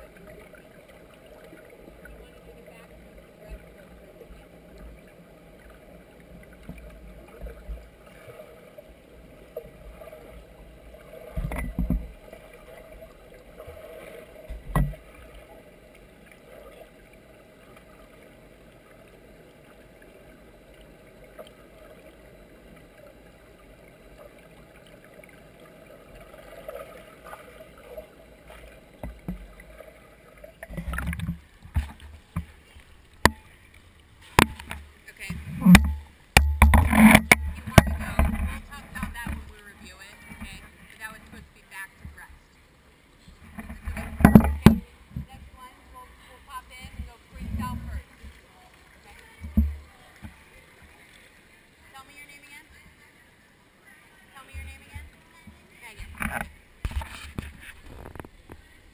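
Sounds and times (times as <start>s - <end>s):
muffled underwater pool sound: 0.0s - 58.9s
water splashing: 0.0s - 58.9s.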